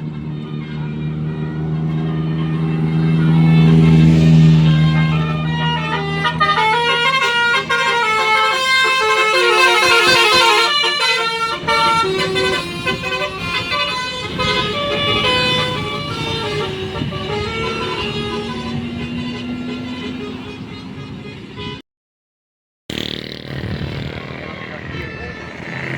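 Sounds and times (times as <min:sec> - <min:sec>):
bus engine running: 0:00.0 - 0:21.8, 0:22.9 - 0:25.9
multi-tone musical air horn: 0:00.0 - 0:21.8.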